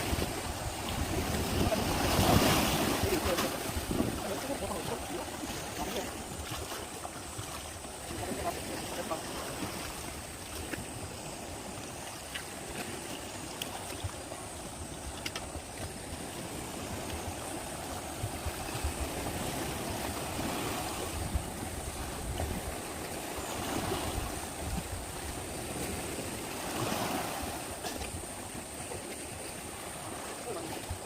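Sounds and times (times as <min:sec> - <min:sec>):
seawater sloshing: 0:00.0 - 0:31.0.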